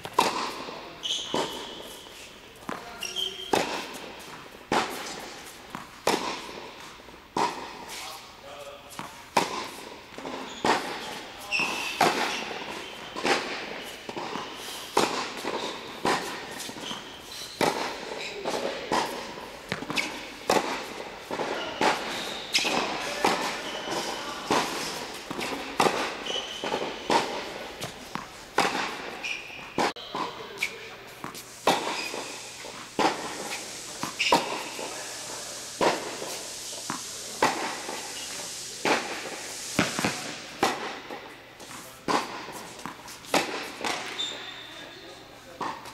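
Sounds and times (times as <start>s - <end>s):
racket hitting tennis ball: 0.0s - 8.3s, 8.9s - 44.5s
shoes squeaking on court: 0.0s - 38.6s, 39.5s - 45.9s.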